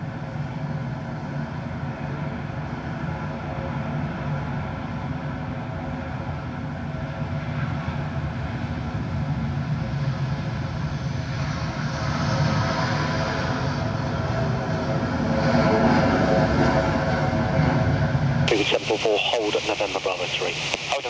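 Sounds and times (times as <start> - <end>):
jet engines droning: 0.0 - 21.0.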